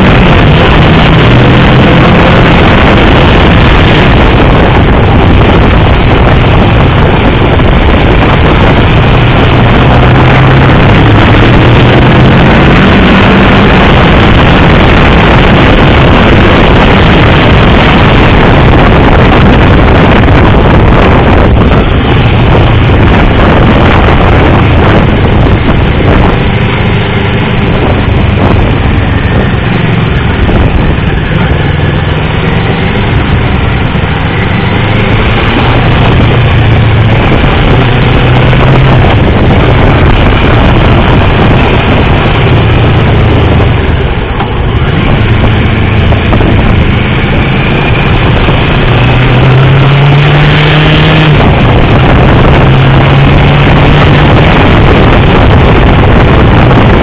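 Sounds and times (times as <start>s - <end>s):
motorcycle engine running hard: 0.0s - 57.0s
wind rush: 0.0s - 57.0s.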